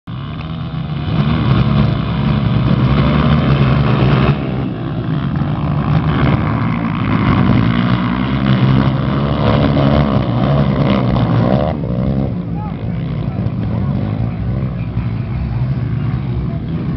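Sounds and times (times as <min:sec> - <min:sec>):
motorcycle engines racing: 0:00.1 - 0:16.9.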